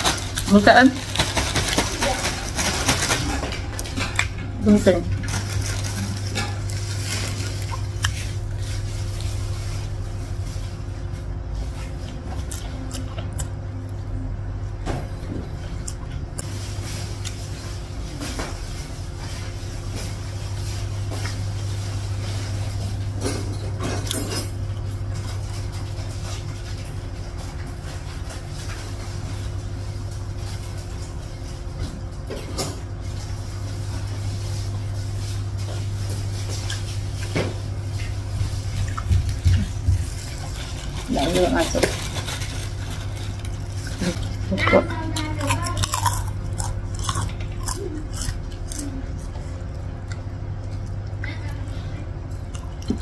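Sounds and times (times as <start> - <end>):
eating and chewing noises: 0.0 - 53.0
low mechanical hum: 0.0 - 53.0.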